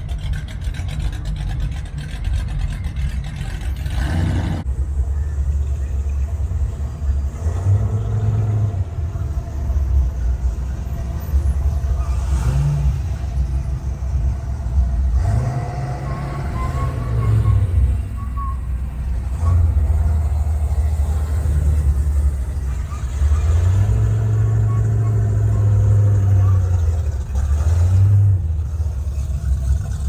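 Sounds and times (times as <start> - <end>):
car engines rumbling: 0.0 - 30.0.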